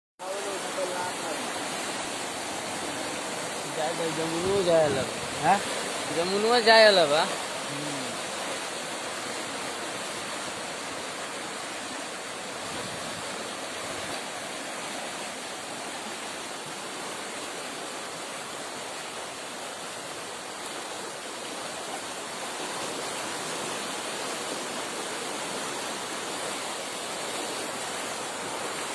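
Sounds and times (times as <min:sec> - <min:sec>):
floodwater rushing: 0:00.2 - 0:28.9.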